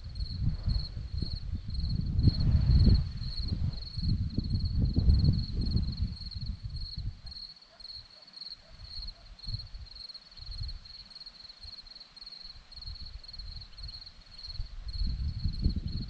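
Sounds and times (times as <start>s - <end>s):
wind rumble on microphone: 0.0s - 7.5s, 8.6s - 11.8s, 12.5s - 16.0s
crickets chirping: 0.0s - 16.0s.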